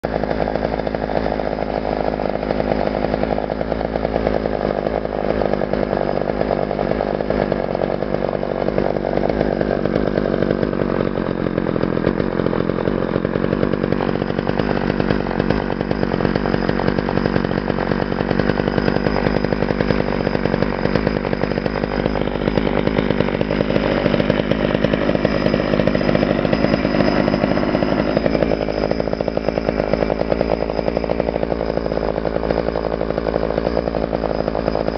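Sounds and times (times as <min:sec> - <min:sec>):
chainsaw engine running: 0:00.0 - 0:34.9.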